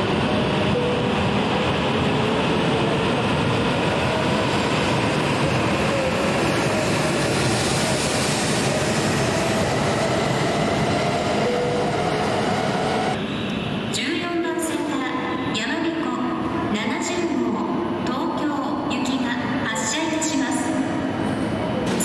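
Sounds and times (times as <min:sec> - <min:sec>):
train running noise with whine: 0:00.0 - 0:22.0.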